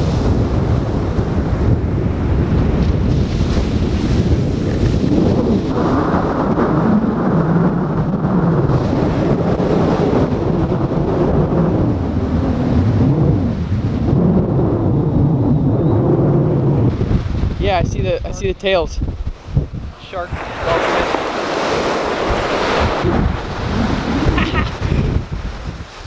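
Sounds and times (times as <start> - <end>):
ocean surf breaking: 0.0 - 14.8, 16.5 - 26.0
wind buffeting microphone: 0.0 - 26.0.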